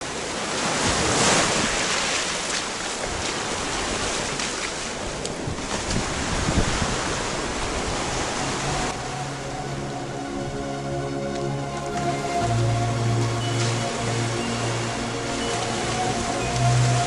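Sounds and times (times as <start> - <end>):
surf washing onto beach: 0.0 - 17.0
wind buffeting microphone: 3.0 - 17.0.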